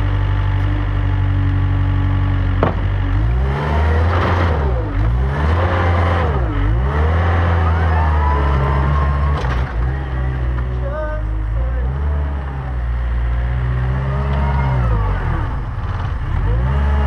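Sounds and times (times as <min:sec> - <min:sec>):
wheel loader diesel engine revving: 0:00.0 - 0:17.0.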